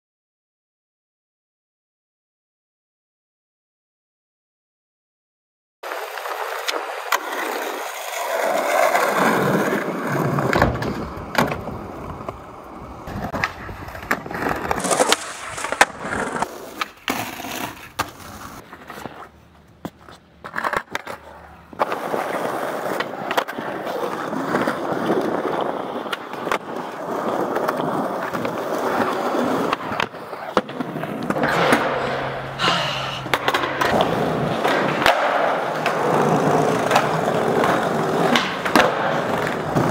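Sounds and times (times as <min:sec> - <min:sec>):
skateboard clacks: 0:05.8 - 0:32.6, 0:33.2 - 0:39.9
skateboard wheels rolling on stone: 0:05.8 - 0:32.6, 0:33.2 - 0:39.9.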